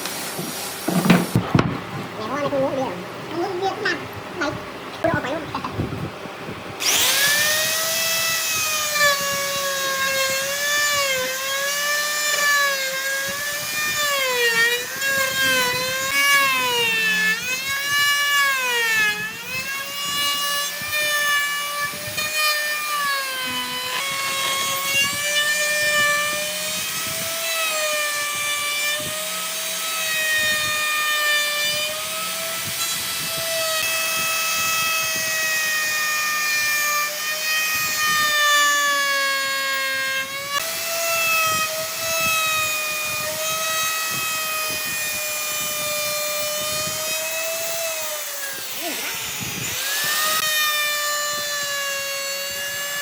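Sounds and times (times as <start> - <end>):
power tool motor whine on wood: 6.7 - 53.0.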